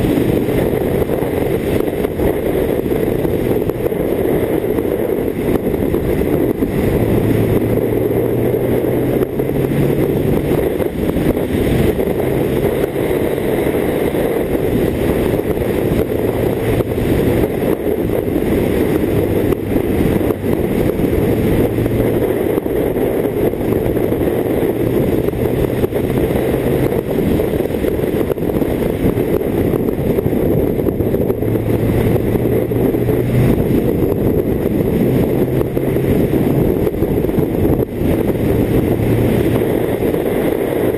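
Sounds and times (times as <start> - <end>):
motorcycle engine humming: 0.0 - 40.9
wind rushing on microphone: 0.0 - 40.9.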